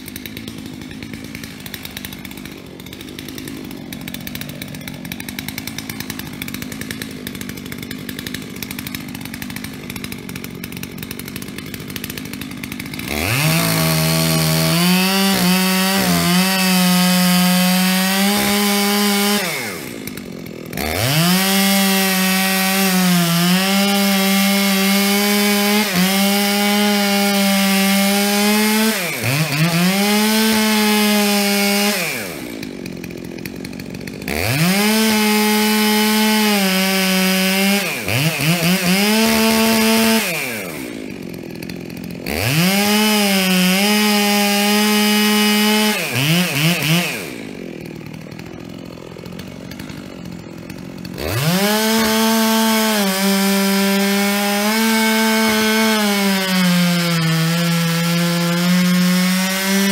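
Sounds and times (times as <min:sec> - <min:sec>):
chainsaw revving and cutting wood: 0:00.0 - 0:59.9.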